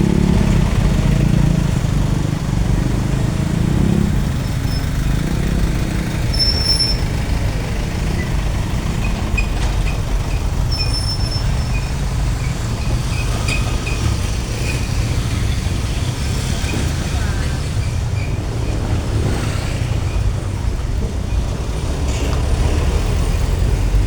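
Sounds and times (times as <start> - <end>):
heavy vehicles rumbling: 0.0 - 24.0.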